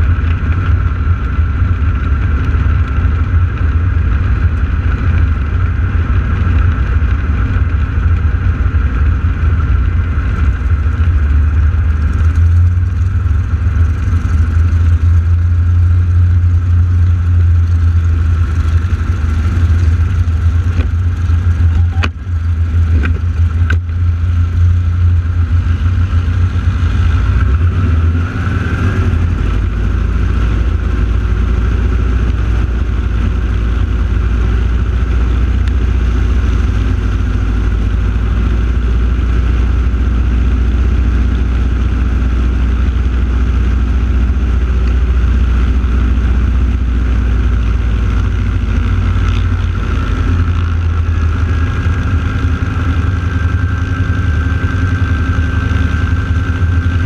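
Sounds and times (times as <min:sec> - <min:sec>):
aircraft radial engines rumbling: 0:00.0 - 0:57.0.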